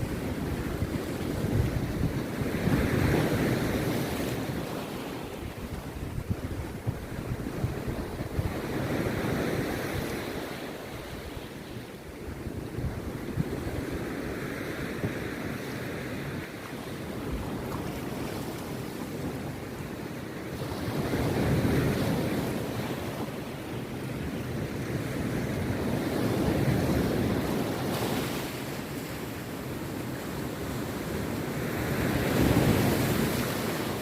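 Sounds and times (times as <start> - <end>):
sea surf breaking on beach: 0.0 - 34.0.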